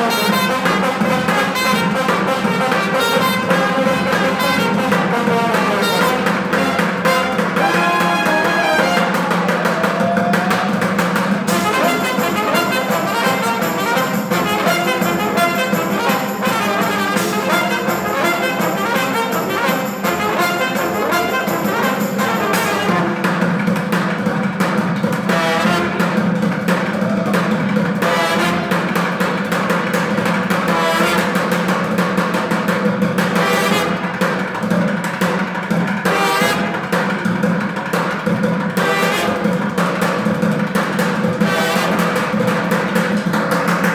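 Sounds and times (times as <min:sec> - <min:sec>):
brass band playing: 0:00.0 - 0:43.9
drumming on plastic buckets: 0:00.0 - 0:43.9.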